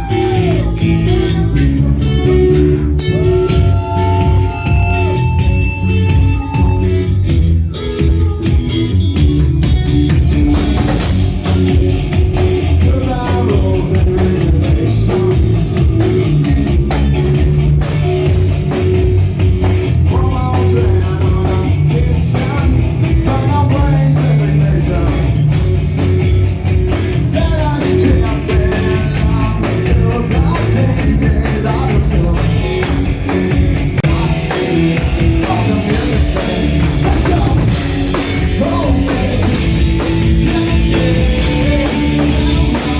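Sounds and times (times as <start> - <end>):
person singing: 0.0 - 10.0, 12.7 - 19.0, 20.0 - 25.6, 27.3 - 42.9
live rock band playing: 0.0 - 42.9.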